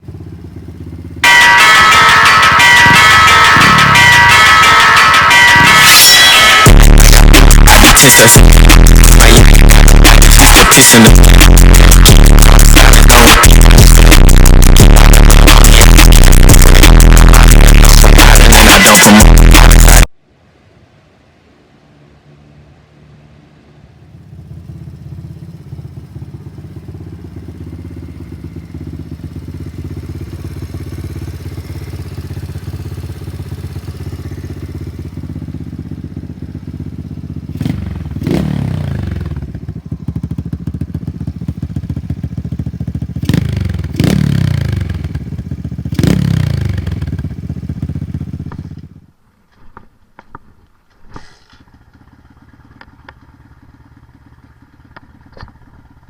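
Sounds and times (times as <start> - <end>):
atv engine idling and revving: 0.0 - 20.1, 22.2 - 49.1, 51.4 - 56.0.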